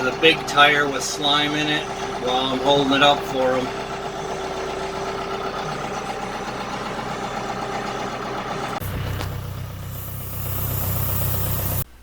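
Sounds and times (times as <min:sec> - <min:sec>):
deep heavy engine hum: 0:00.0 - 0:12.0
tractor engine idling: 0:00.0 - 0:12.0.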